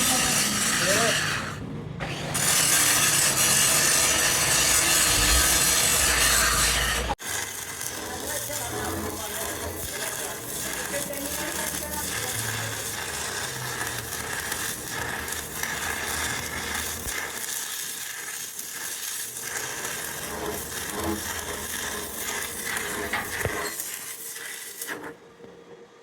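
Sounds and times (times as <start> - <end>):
electric arc welding crackle: 0.0 - 1.6, 2.3 - 25.2.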